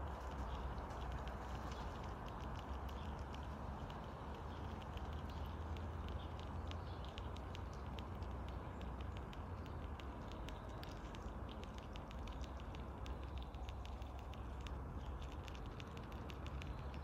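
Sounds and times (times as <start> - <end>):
low background rumble: 0.0 - 17.0
squirrel gnawing food: 0.0 - 17.0.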